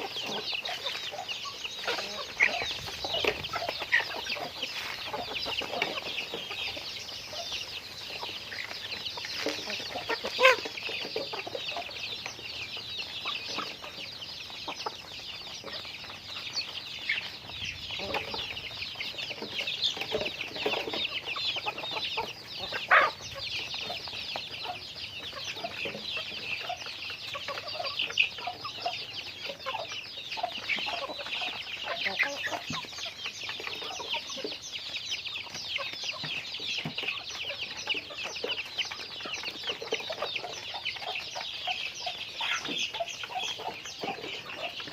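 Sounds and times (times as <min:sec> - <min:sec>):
chickens peeping and clucking: 0:00.0 - 0:44.9.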